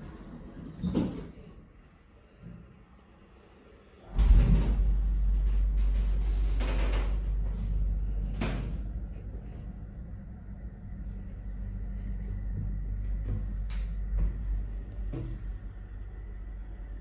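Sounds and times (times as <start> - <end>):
lift car low rumble: 0.0 - 17.0.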